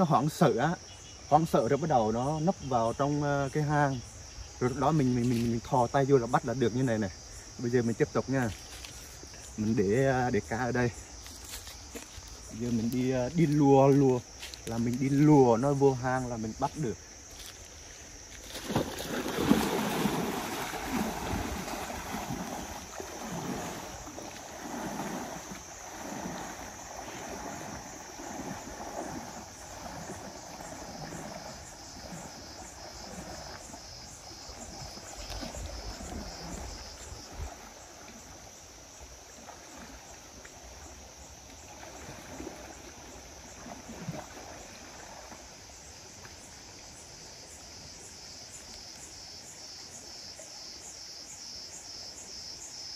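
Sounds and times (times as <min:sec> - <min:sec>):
person wading through stream: 0:00.0 - 0:52.9
water lapping: 0:00.0 - 0:52.9.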